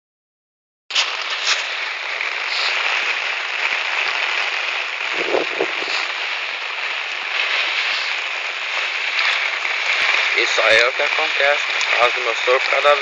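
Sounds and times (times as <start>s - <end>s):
heavy rain hissing: 0.9s - 13.0s.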